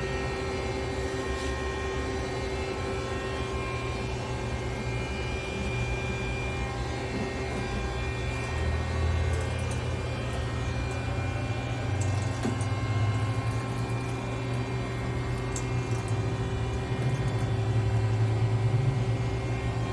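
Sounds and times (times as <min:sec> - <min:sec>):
machining center humming: 0:00.0 - 0:19.9.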